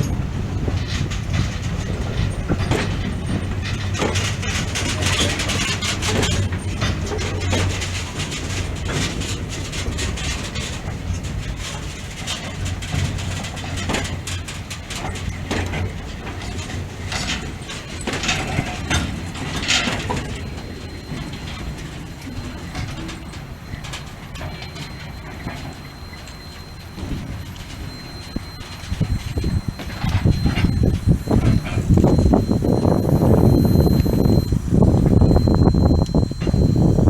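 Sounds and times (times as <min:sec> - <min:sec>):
freight train rumbling past: 0:00.0 - 0:37.0
wheel clacks over rail joints: 0:00.0 - 0:37.0.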